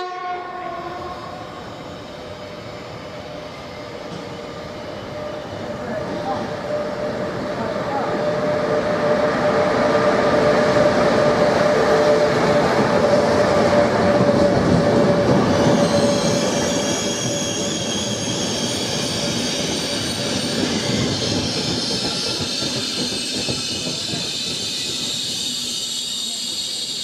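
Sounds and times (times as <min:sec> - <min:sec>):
locomotive rolling past: 0:00.4 - 0:27.0
train brakes squealing: 0:00.6 - 0:27.0.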